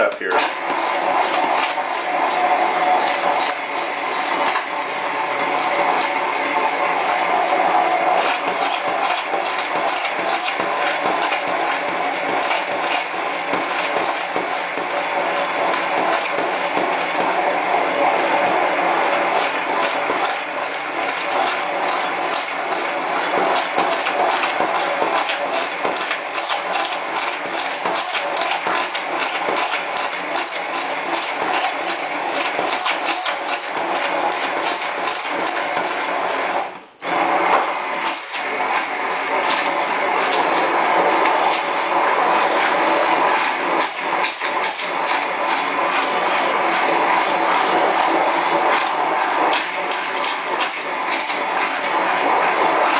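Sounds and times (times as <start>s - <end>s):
immersion blender motor running: 0.0s - 52.9s.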